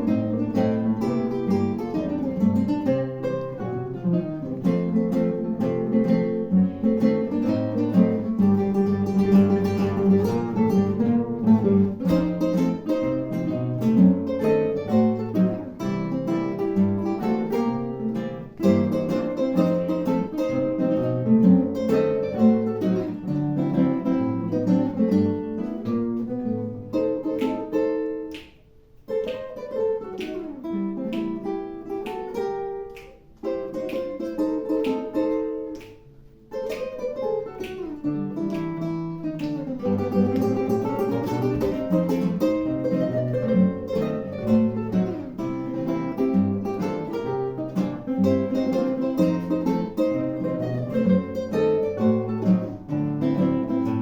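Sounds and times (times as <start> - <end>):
acoustic guitar plucking: 0.0 - 54.0.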